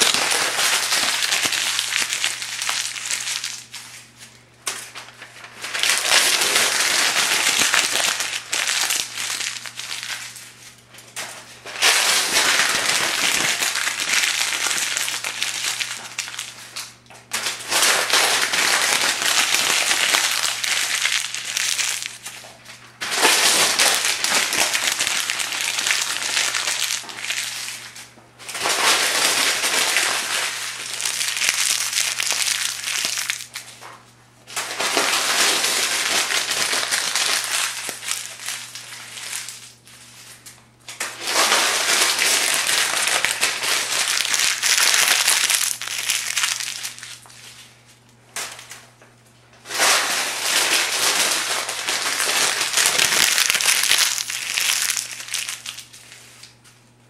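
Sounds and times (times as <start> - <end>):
paper pages crumpled by hand: 0.0 - 33.8, 34.5 - 40.4, 41.1 - 48.0, 49.7 - 56.7.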